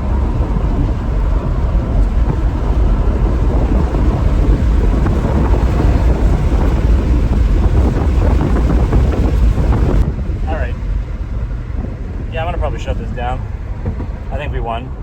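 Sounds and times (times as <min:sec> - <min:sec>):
car cabin road and engine rumble: 0:00.0 - 0:15.0
wind buffeting microphone: 0:00.0 - 0:15.0.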